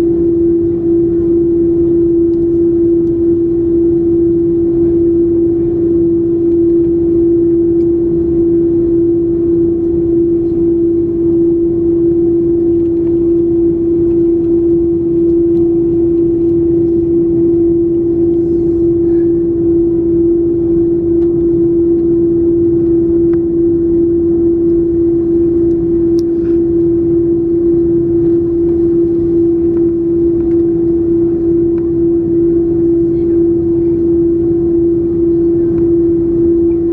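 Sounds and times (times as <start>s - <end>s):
airliner cabin drone: 0.0s - 36.9s.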